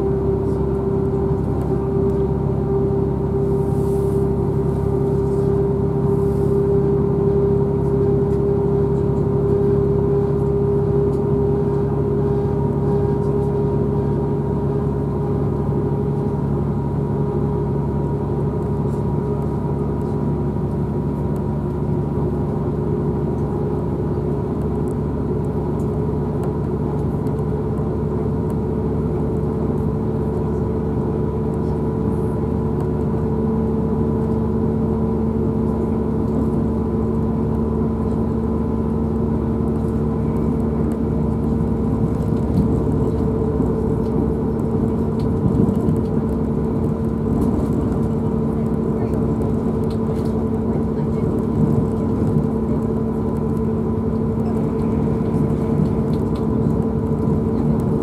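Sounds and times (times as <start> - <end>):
diesel engine drone: 0.0 - 58.0
train wheels rumbling on rail: 0.0 - 58.0.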